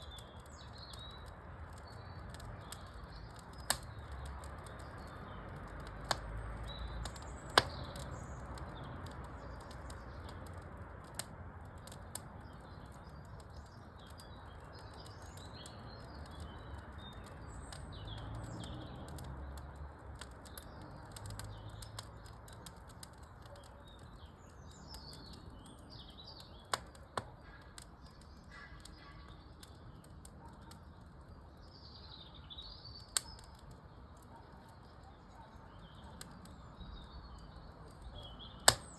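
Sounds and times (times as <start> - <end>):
fire popping: 0.0 - 38.9
small birds chirping: 0.0 - 38.9
wood fire crackling: 0.0 - 38.9.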